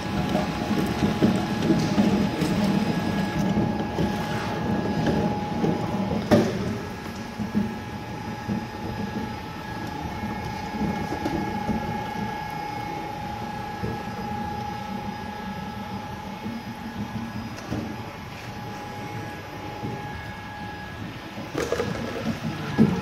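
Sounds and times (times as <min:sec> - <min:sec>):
juice extractor humming: 0:00.0 - 0:23.0.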